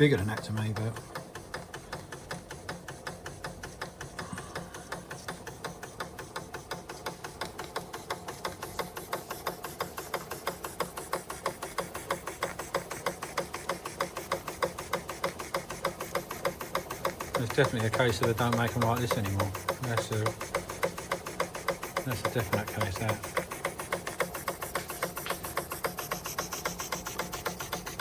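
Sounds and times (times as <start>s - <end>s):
toy steam engine beating: 0.0s - 28.0s.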